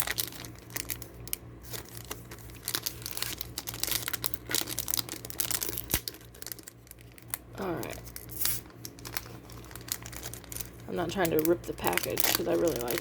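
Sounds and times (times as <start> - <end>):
foil wrapper crinkling: 0.0 - 13.0
steady low hum: 0.0 - 13.0.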